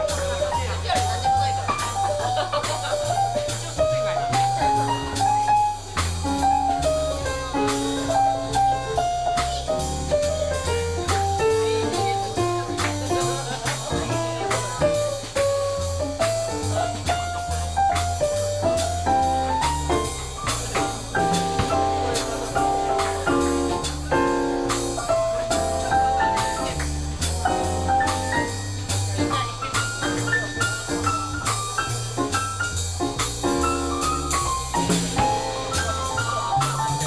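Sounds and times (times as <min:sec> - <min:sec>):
drum kit cymbals: 0:00.0 - 0:37.0
jazz band playing: 0:00.0 - 0:37.0.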